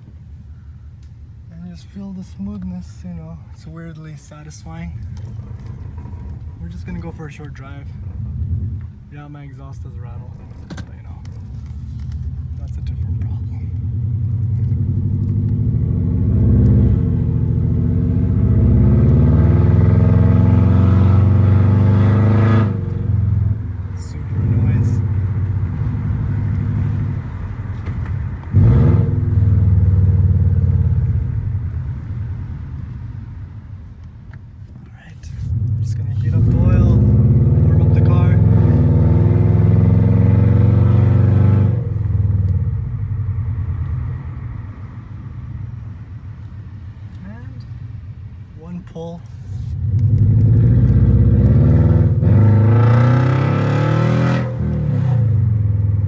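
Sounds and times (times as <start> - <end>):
car engine revving: 4.3 - 33.3, 35.0 - 48.8, 49.4 - 56.0.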